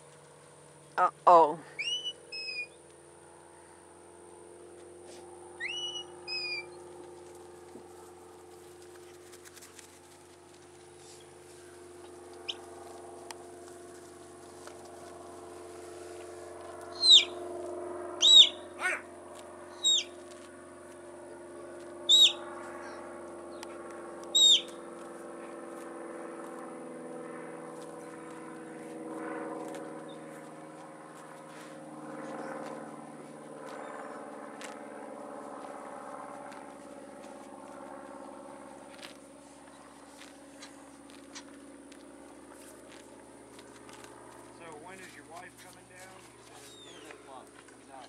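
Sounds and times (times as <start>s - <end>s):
low drone: 0.0s - 48.0s.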